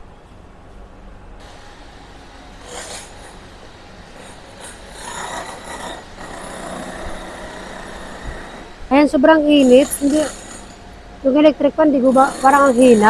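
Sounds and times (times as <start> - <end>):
steady hum and hiss: 0.0 - 13.0
indistinct activity: 1.4 - 13.0.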